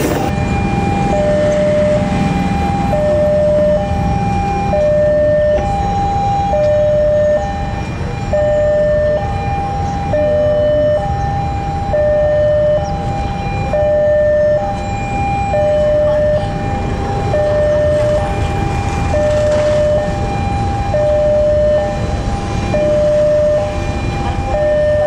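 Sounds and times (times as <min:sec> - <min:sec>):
diesel train rumble: 0:00.0 - 0:25.0
two-tone level crossing alarm: 0:00.0 - 0:25.0.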